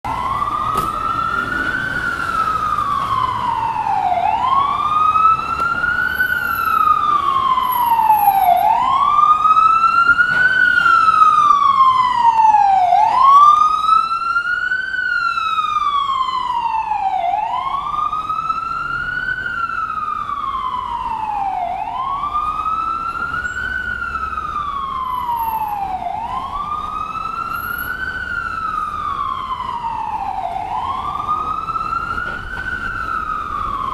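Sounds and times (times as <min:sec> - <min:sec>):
ambulance siren wailing: 0:00.0 - 0:33.9.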